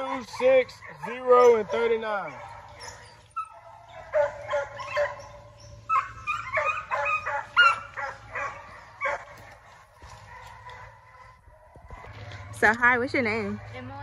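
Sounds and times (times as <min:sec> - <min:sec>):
hounds baying: 0:00.0 - 0:12.6.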